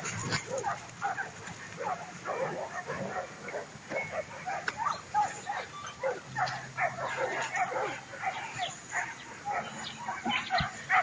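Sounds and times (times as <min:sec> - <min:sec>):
puppies yipping and barking: 0:00.0 - 0:11.0.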